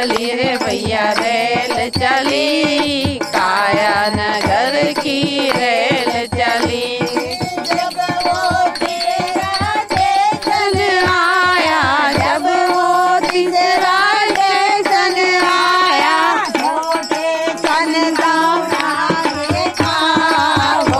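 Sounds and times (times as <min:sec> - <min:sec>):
percussive beat: 0:00.0 - 0:20.9
women singing devotional song: 0:00.0 - 0:20.9.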